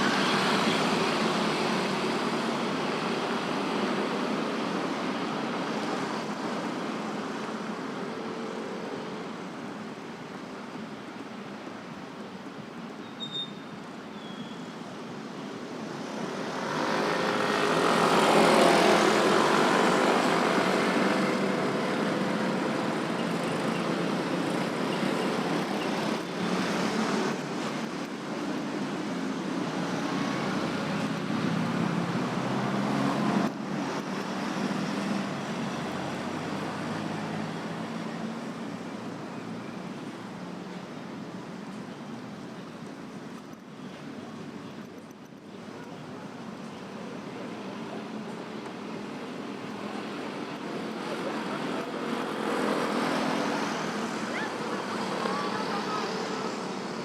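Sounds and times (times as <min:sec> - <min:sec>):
motorbikes passing: 0:00.0 - 0:10.6, 0:15.0 - 0:57.0
busy road traffic: 0:00.0 - 0:57.0
cars and trucks passing: 0:00.0 - 0:57.0.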